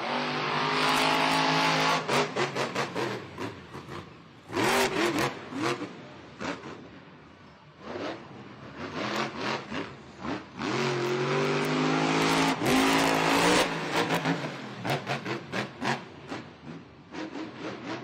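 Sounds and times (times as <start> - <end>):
truck engine revving: 0.0 - 7.1, 7.8 - 18.0.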